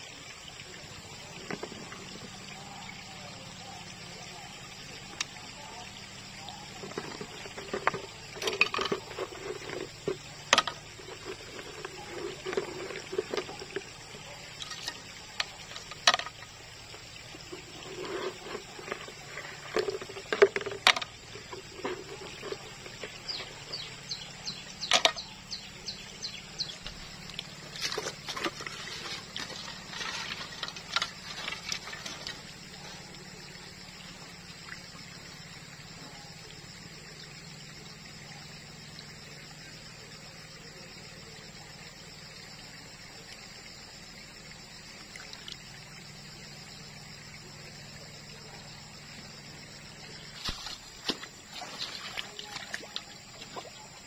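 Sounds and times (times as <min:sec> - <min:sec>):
water splashing and sloshing: 0:00.0 - 0:37.7, 0:42.1 - 0:54.0.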